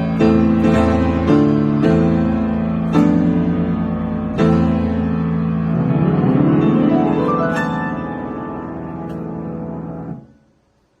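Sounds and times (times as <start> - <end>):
piano chord: 0.0 - 11.0.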